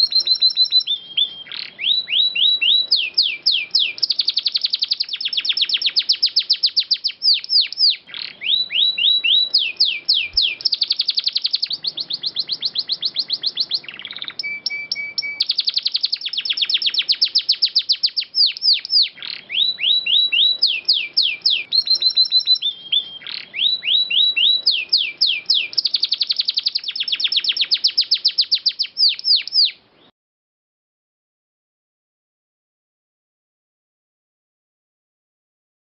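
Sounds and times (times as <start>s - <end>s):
canary singing trills: 0.0s - 30.1s.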